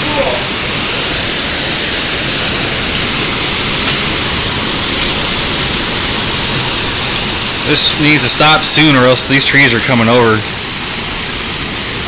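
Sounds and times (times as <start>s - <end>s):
heavy rain: 0.0s - 12.0s
storm wind in trees: 0.0s - 12.0s.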